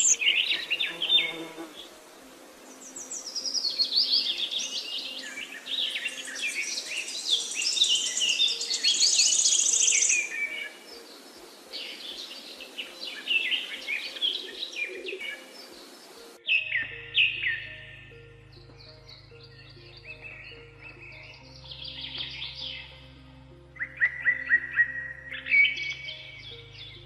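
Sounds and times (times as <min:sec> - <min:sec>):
birds singing: 0:00.0 - 0:27.0.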